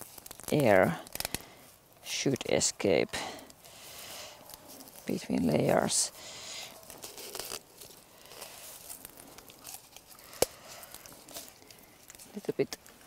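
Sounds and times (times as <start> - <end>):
birch bark crackling and rustling: 0.0 - 13.0.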